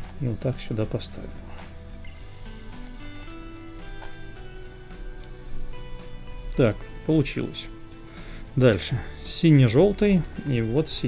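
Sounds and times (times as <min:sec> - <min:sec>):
background music of held notes: 0:00.0 - 0:11.0.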